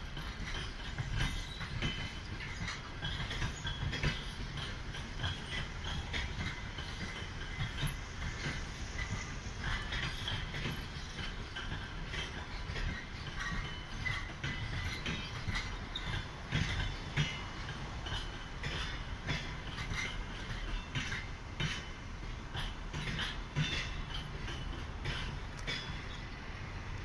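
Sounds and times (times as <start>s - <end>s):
high wheel squeaks: 0.0s - 21.9s, 22.6s - 27.0s
train rolling slowly: 0.0s - 27.0s
wheels clanking over rail joints: 0.0s - 27.0s.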